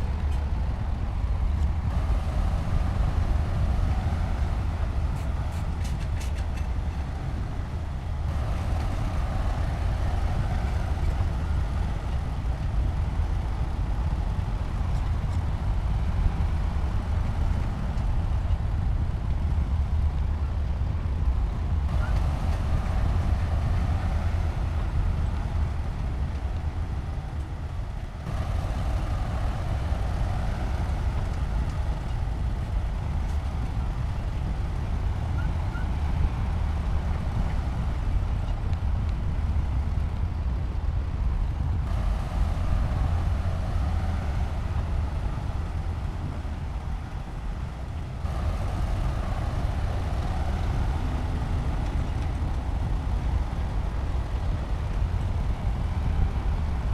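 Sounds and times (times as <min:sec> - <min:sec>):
bulldozer diesel engine rumbling: 0:00.0 - 0:56.9.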